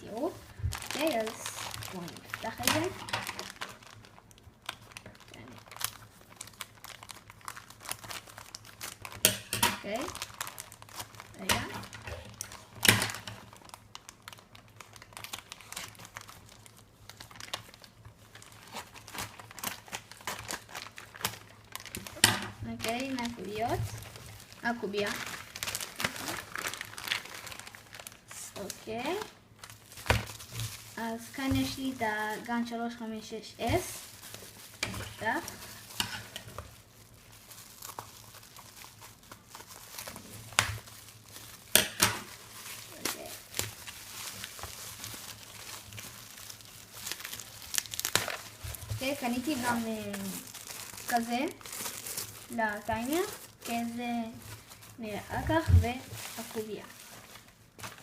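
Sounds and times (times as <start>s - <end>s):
packaging rustling: 0.0s - 32.8s, 33.6s - 58.0s.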